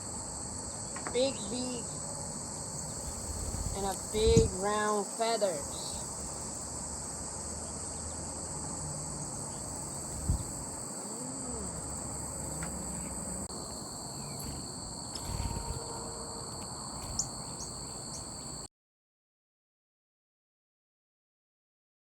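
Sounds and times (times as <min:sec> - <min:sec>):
insects chorus: 0:00.0 - 0:18.7
lower insect trill: 0:00.0 - 0:18.7.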